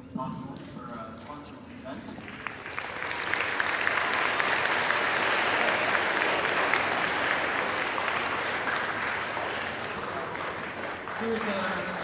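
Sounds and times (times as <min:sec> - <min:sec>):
audience applause: 0:02.0 - 0:12.0.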